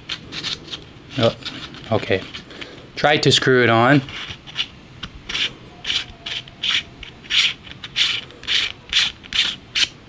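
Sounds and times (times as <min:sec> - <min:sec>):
threads scraping: 0:00.0 - 0:10.0.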